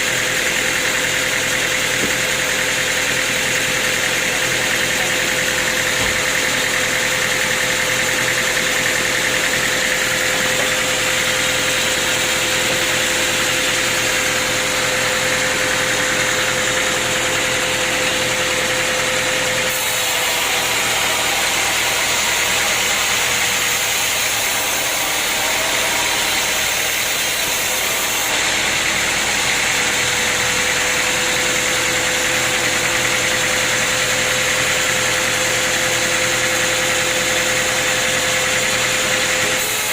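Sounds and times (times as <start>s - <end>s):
machinery whine: 0.0s - 39.9s
sawmill machinery hissing: 0.0s - 39.9s.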